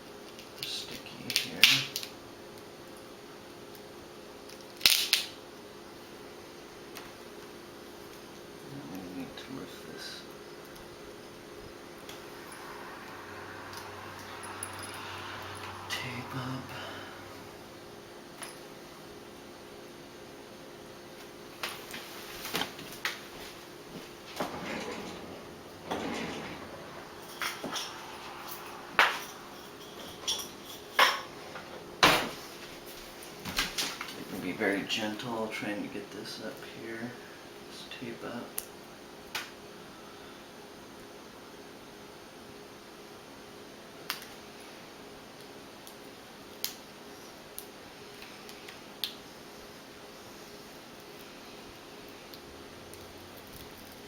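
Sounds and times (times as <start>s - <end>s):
steady low hiss: 0.0s - 54.0s.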